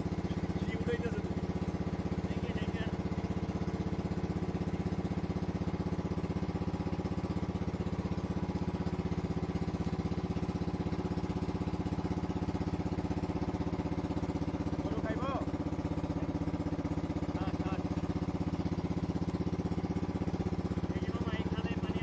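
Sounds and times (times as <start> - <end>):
motorboat engine chugging: 0.0 - 22.0.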